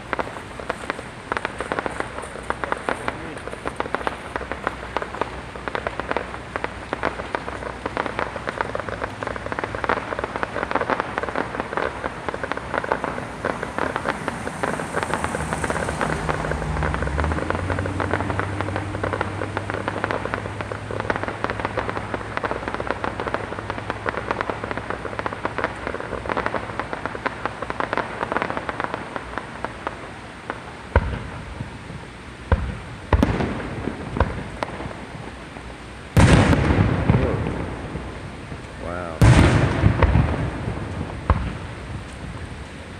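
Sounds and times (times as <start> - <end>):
fireworks crackling: 0.0 - 42.9
loud firework bangs: 0.0 - 42.9.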